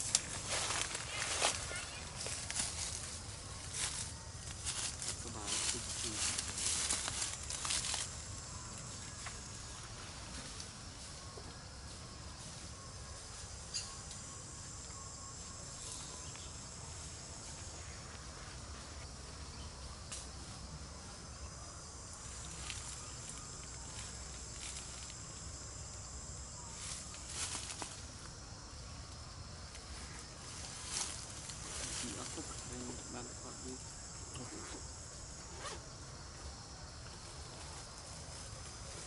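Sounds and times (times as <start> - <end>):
high-pitched insect chorus: 0.0 - 39.0.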